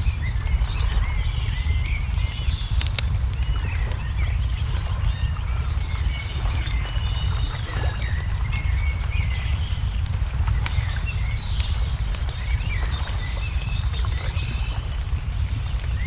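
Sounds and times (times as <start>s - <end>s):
small birds chirping: 0.0s - 16.0s
steady low rumble: 0.0s - 16.0s
wood fire crackling and popping: 0.0s - 16.0s.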